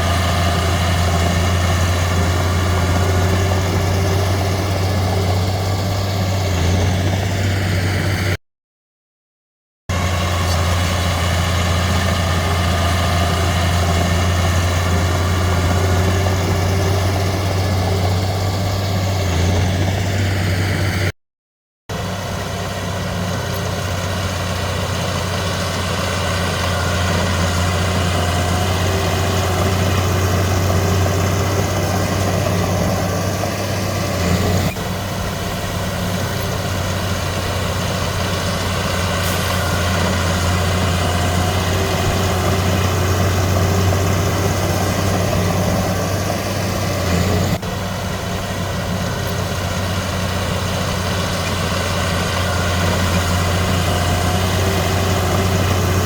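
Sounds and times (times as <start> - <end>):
heavy diesel engine droning: 0.0 - 8.4, 9.9 - 21.1, 21.9 - 56.0.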